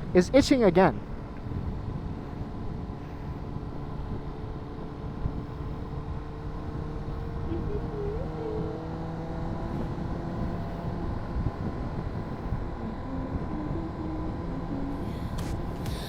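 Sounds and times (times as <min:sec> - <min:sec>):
wind and road noise: 0:00.0 - 0:16.0
motorcycle engine running: 0:01.0 - 0:16.0.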